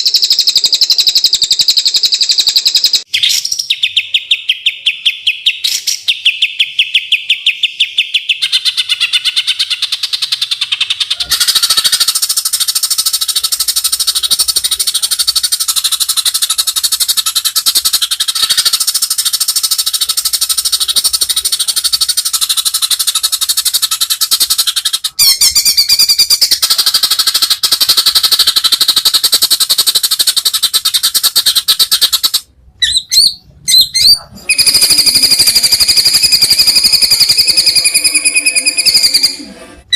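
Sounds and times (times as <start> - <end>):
songbird singing: 0.0 - 39.4.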